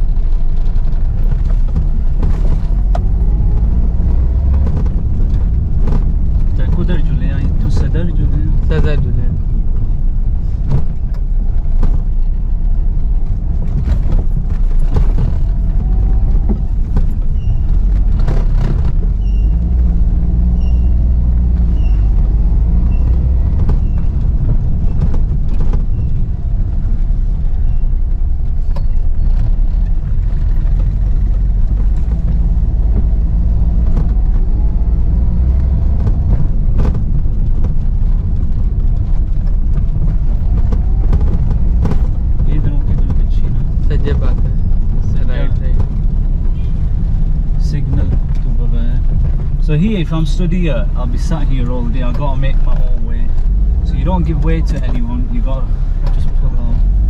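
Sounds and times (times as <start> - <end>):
car engine rumbling: 0.0 - 57.0
knocks and rattles: 0.0 - 57.0.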